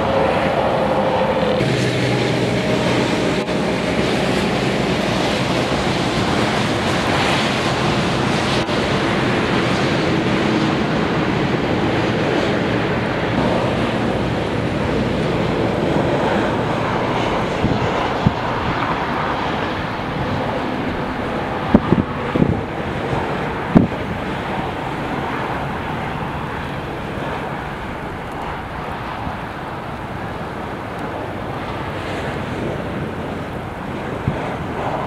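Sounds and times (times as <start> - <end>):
gusty wind buffeting microphone: 0.0 - 35.0.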